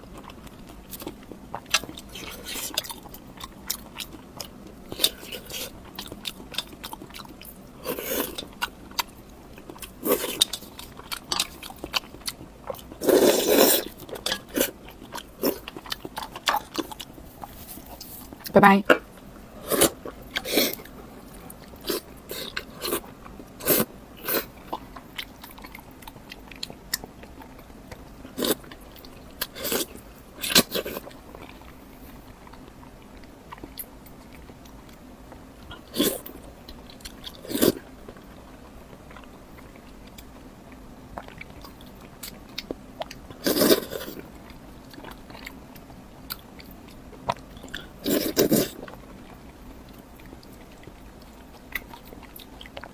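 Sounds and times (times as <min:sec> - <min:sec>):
crunchy bites and chewing: 0:00.1 - 0:31.9, 0:41.1 - 0:52.9.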